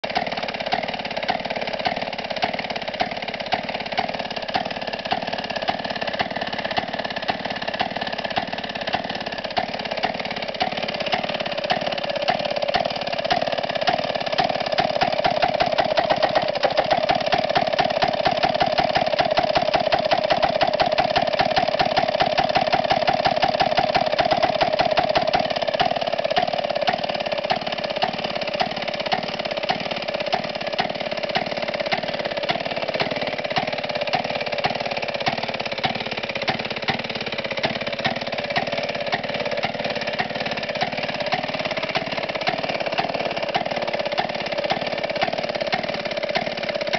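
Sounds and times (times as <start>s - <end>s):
two-stroke engine running: 0.0s - 46.9s.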